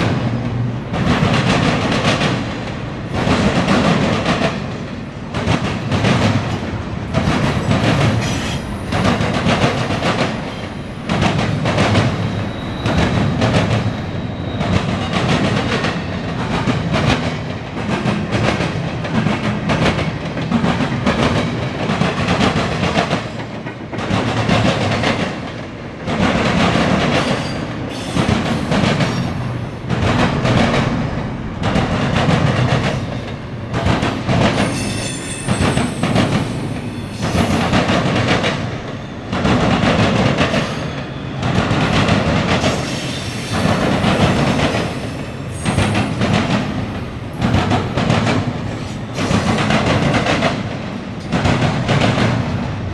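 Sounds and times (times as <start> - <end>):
freight train wheels clacking: 0.0 - 52.9.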